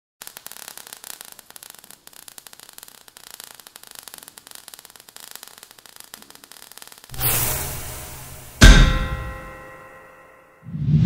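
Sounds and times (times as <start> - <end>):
sparks crackling and fizzing: 0.2 - 9.9.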